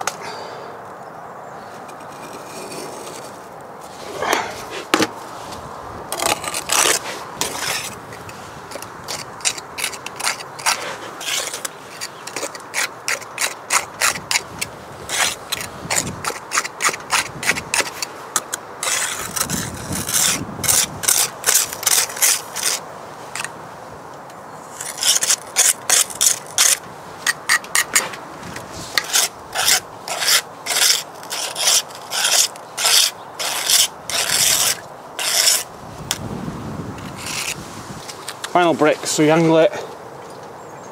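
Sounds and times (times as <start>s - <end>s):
steel tool scraping mortar: 1.9s - 5.1s, 6.1s - 23.5s, 24.7s - 36.2s, 37.0s - 38.2s.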